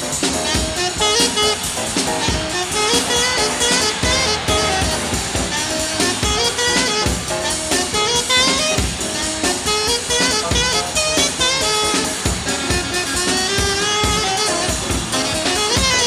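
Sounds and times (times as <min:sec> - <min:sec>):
drum kit beat: 0:00.0 - 0:16.0
instrumental music: 0:00.0 - 0:16.0.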